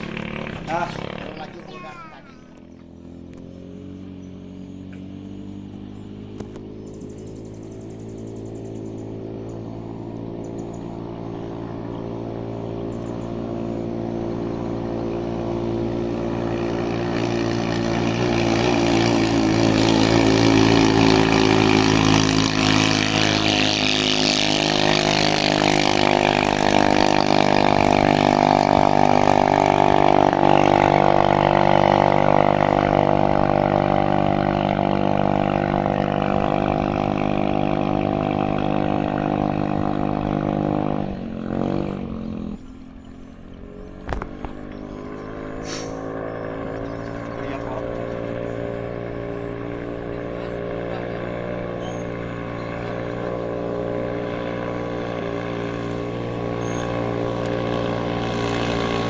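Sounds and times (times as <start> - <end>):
racing boat engine at high revs: 0.0 - 59.0.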